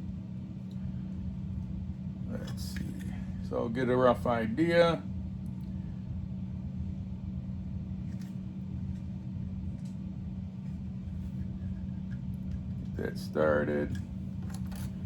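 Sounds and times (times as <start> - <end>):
low rumble: 0.0 - 15.0
steady low hum: 0.0 - 15.0.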